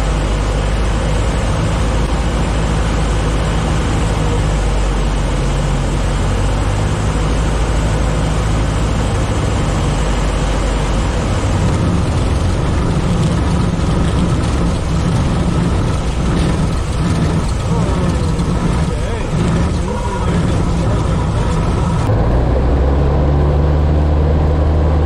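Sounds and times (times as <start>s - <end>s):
light plane engine and propeller: 0.0s - 25.0s.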